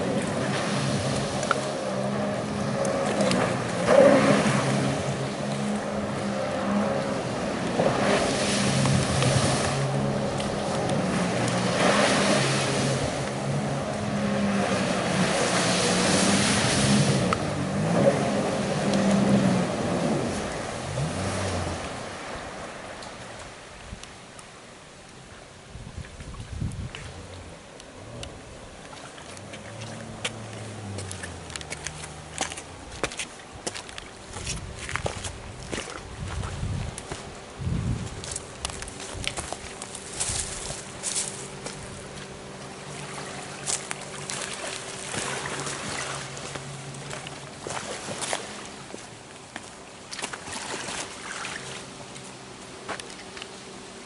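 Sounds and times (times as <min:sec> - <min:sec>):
engine running low: 0:00.0 - 0:54.0
water lapping at shoreline: 0:00.0 - 0:54.0.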